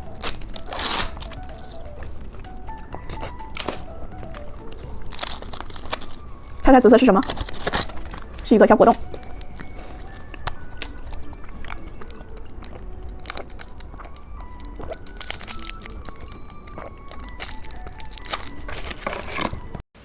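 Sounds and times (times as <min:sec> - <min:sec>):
plastic wrapper crinkling: 0:00.0 - 0:19.8
soft music of single notes: 0:00.0 - 0:19.8.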